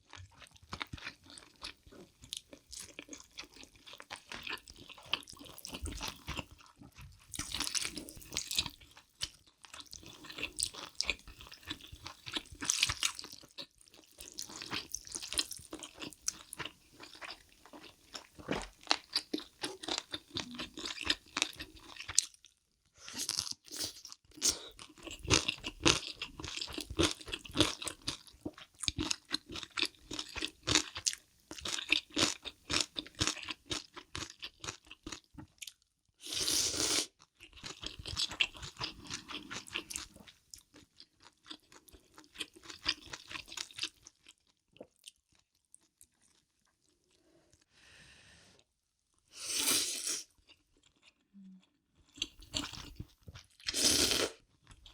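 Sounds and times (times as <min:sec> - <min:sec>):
crunchy food chewing: 0:00.0 - 0:47.2, 0:52.0 - 0:54.9.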